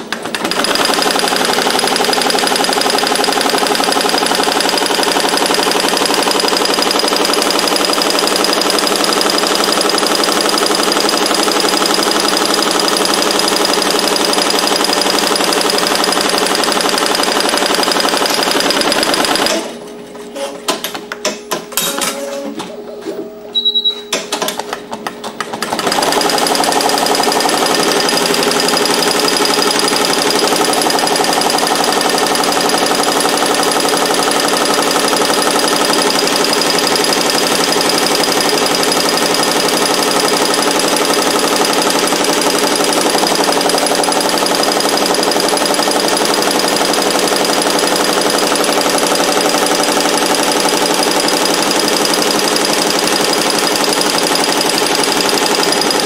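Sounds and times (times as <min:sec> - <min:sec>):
embroidery machine clacks: 0:00.0 - 0:19.7, 0:24.1 - 0:56.0
embroidery machine stitching clatter: 0:00.0 - 0:19.8, 0:24.3 - 0:56.0.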